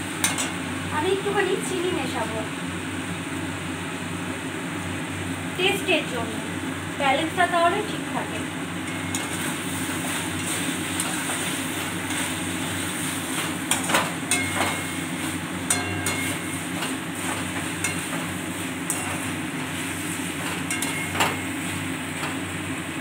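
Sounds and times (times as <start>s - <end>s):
steady cooking hiss: 0.0s - 23.0s.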